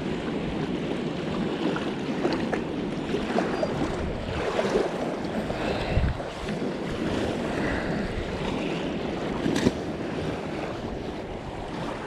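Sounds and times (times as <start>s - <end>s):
river water splashing: 0.0s - 12.0s
wind rumbling on microphone: 0.0s - 12.0s.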